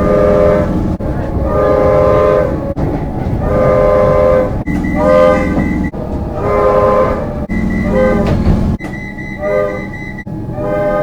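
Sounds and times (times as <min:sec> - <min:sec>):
train air horn blasts: 0:00.0 - 0:08.8, 0:09.4 - 0:11.0
train rumble: 0:00.0 - 0:11.0.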